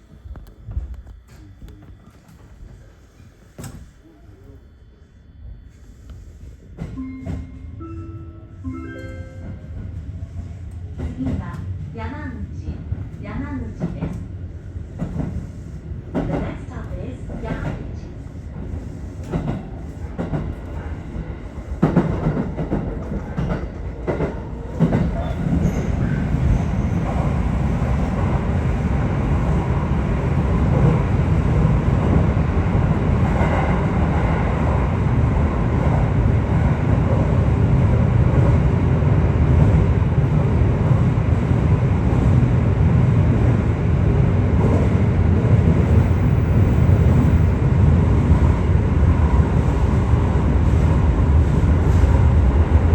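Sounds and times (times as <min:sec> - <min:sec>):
train rumble: 0:00.0 - 0:52.9.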